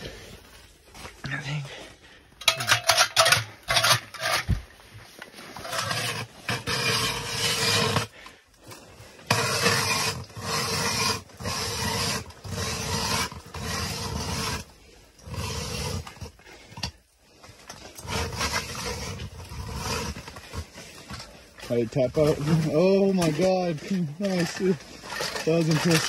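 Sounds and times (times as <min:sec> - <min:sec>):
ice auger grinding through ice: 0:02.4 - 0:26.0.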